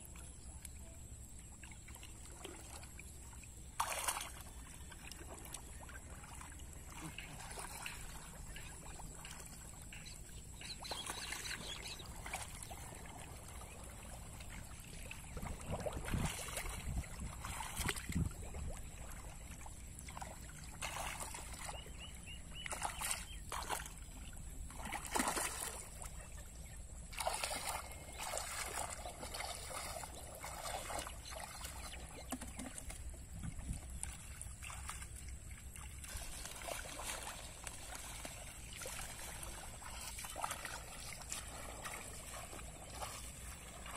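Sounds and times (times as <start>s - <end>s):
water splashing and sloshing: 0.0s - 43.9s.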